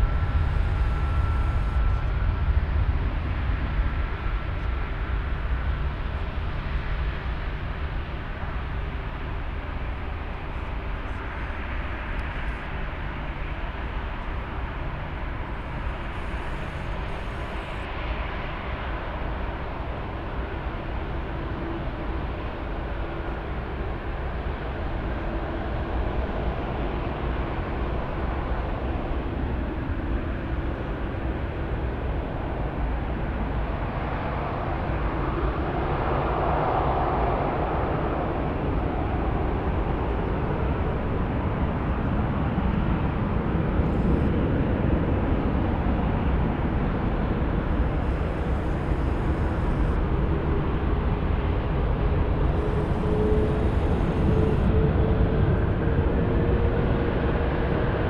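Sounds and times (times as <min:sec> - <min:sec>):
faint steady whine: 0:00.0 - 0:58.0
jet engines rumbling: 0:00.0 - 0:58.0.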